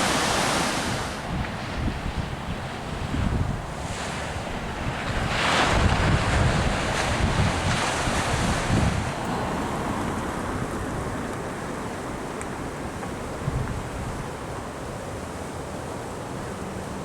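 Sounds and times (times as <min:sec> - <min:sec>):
wind buffeting microphone: 0:00.0 - 0:15.8
surf breaking on beach: 0:00.0 - 0:17.0.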